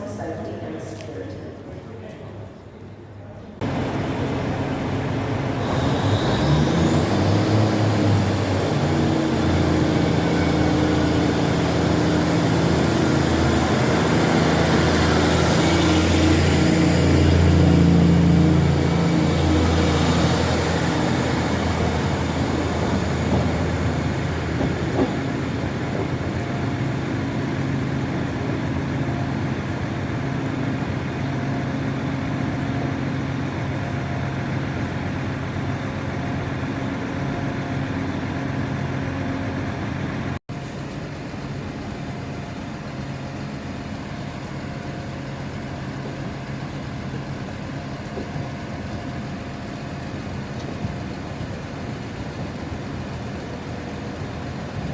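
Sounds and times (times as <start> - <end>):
train engine humming: 0.0 - 54.9.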